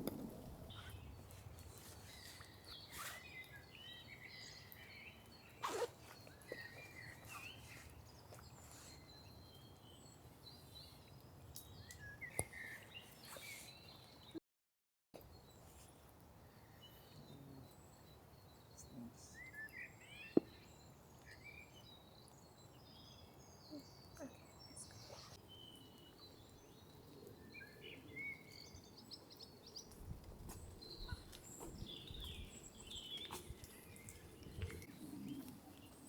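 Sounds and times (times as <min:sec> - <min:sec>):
small birds chirping: 0:00.0 - 0:14.4, 0:15.2 - 0:36.0.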